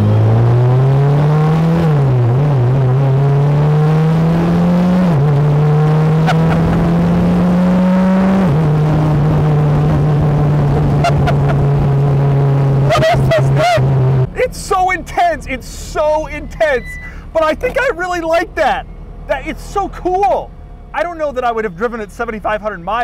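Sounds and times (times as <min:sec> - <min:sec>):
car engine accelerating with upshifts: 0:00.0 - 0:21.1.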